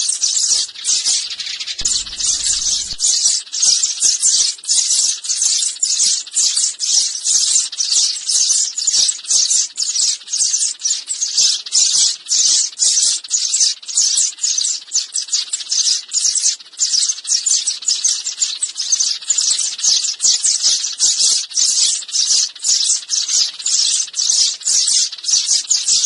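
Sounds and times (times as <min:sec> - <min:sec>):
sparrow chirping: 0:00.0 - 0:26.0.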